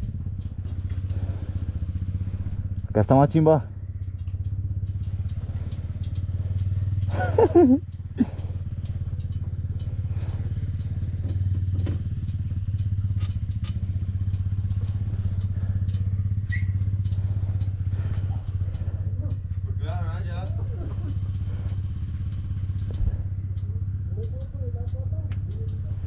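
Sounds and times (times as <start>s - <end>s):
motorcycle engine idling: 0.0s - 26.0s
small clicks and clatters: 0.0s - 26.0s.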